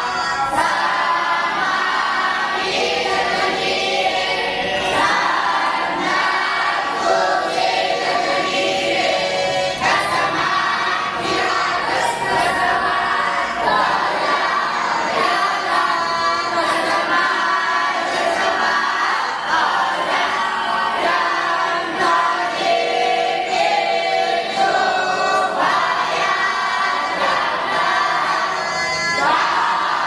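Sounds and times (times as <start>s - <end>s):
young voices chanting in unison: 0.0s - 30.0s.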